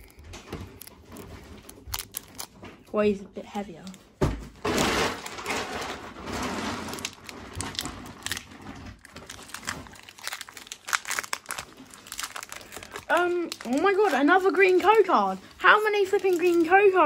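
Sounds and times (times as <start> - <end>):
foil wrapper tearing and crinkling: 0.0 - 2.7, 4.8 - 17.0.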